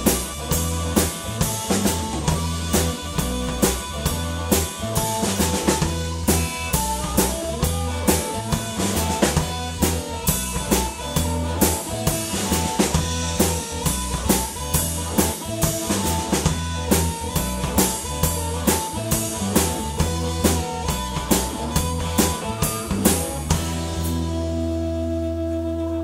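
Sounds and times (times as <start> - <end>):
drum kit beating fast rhythm: 0.0 - 24.8
blues-rock band playing live: 0.0 - 26.0.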